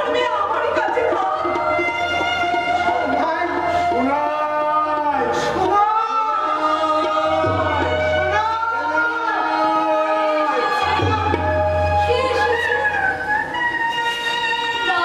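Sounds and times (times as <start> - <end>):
singers singing a melodic song: 0.0 - 15.0.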